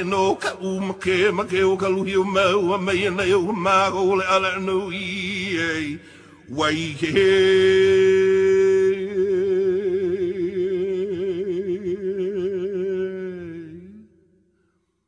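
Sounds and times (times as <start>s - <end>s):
person chanting a long vowel with vibrato: 0.0s - 14.3s.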